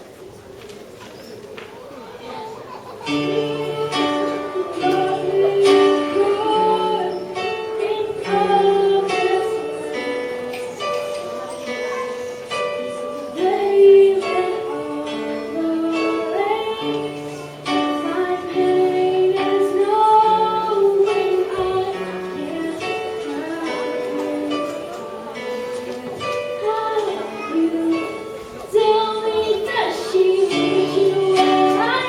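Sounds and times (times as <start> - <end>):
girl singing: 3.0 - 32.0
instrumental backing music: 3.0 - 32.0.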